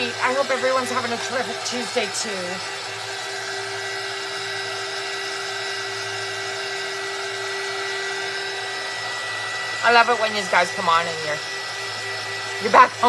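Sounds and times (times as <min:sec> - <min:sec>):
heat gun fan whirring: 0:00.0 - 0:13.0.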